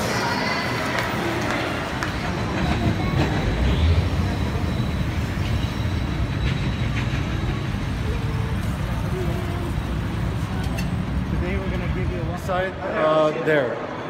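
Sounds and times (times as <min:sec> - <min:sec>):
heavy vehicle rumbling: 0:01.3 - 0:12.9.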